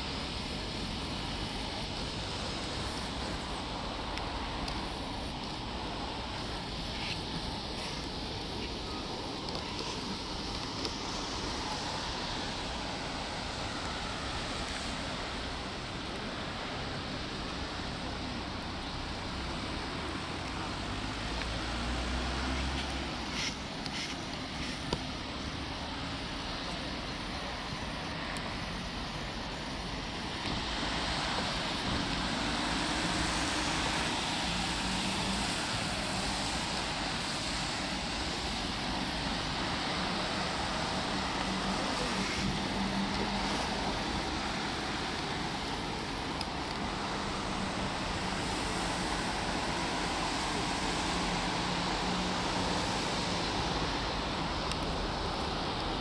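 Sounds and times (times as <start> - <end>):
traffic hiss on a wet road: 0.0 - 56.0
wind: 0.0 - 56.0.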